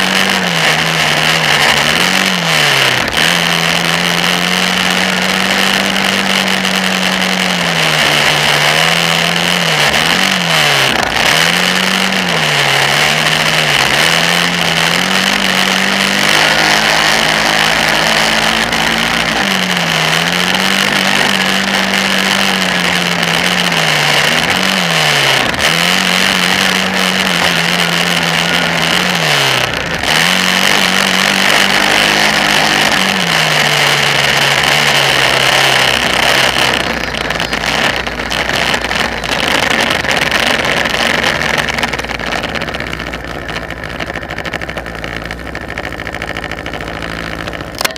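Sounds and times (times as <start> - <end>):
atv engine revving: 0.0 - 47.9.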